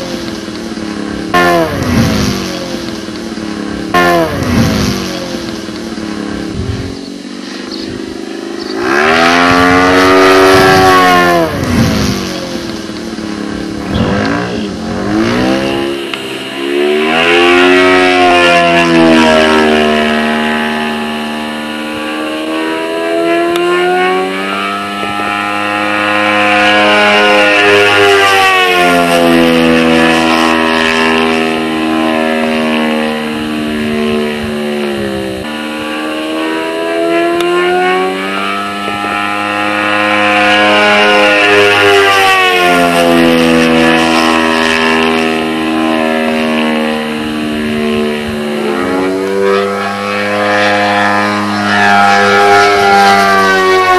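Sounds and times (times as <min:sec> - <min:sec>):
model aircraft engine revving: 0:00.0 - 0:53.9.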